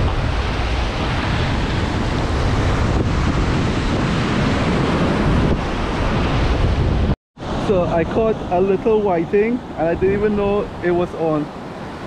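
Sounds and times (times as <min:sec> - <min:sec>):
ocean surf washing over sand: 0:00.0 - 0:12.0
wind on microphone: 0:00.0 - 0:12.0.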